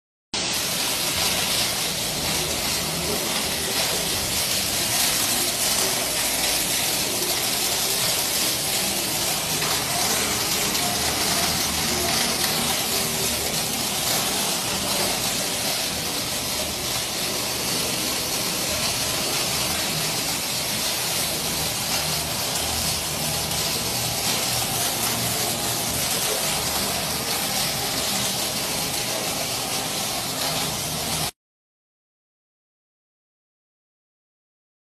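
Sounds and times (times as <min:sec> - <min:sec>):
heavy rain falling: 0:00.4 - 0:31.3.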